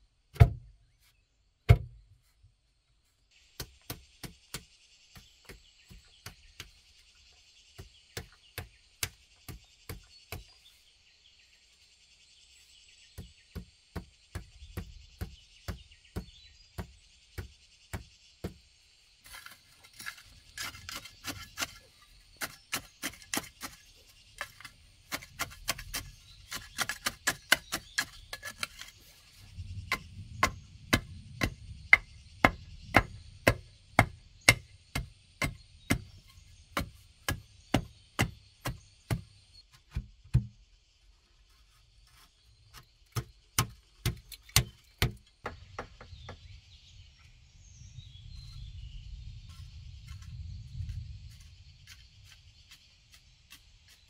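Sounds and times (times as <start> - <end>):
wooden pole tamping soil: 3.6 - 10.9, 13.1 - 40.6, 41.4 - 45.9, 49.5 - 54.0.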